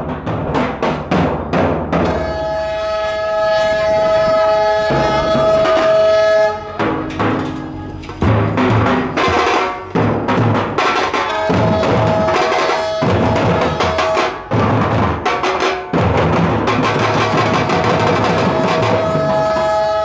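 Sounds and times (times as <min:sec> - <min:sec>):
percussive music with drums: 0:00.0 - 0:02.6, 0:03.6 - 0:20.0.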